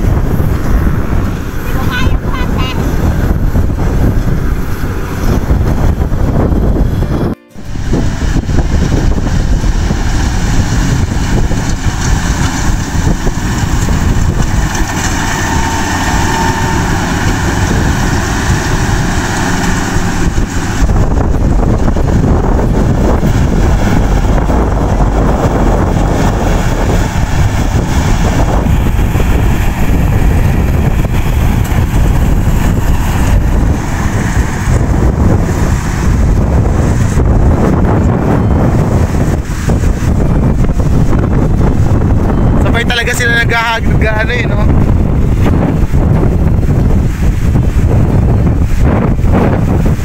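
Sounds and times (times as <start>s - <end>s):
combine harvester machinery din: 0.0s - 50.0s.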